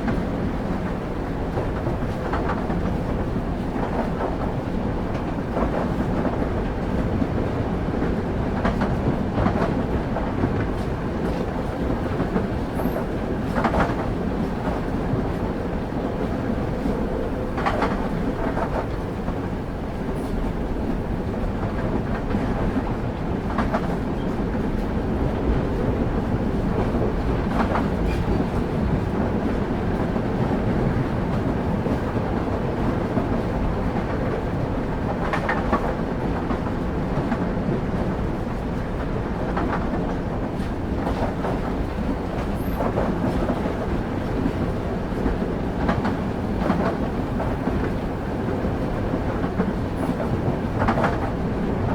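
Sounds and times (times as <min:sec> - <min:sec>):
railway carriage rumbling: 0:00.0 - 0:51.9.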